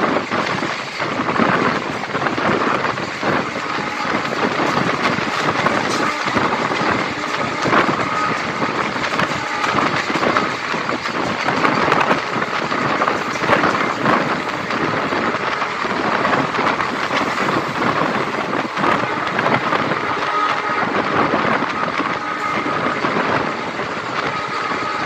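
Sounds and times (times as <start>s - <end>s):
train clicks and clatter: 0.0s - 25.0s
train wheels rolling on rails: 0.0s - 25.0s.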